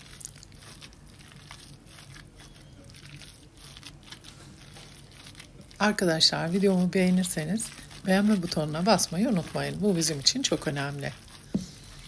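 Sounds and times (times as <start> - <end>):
minced meat squelching: 0.0 - 12.0.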